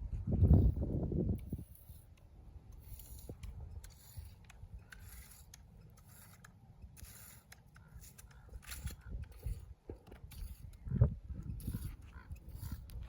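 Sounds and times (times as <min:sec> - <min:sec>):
garden tool cutting weeds: 0:00.0 - 0:13.0.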